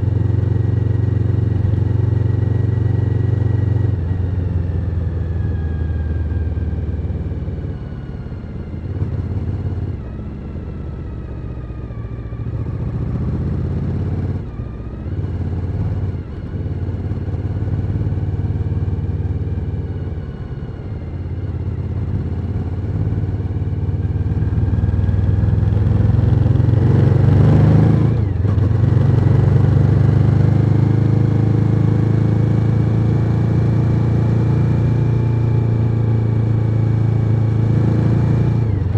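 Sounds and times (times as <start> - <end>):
motorcycle engine on the road: 0.0 - 38.9.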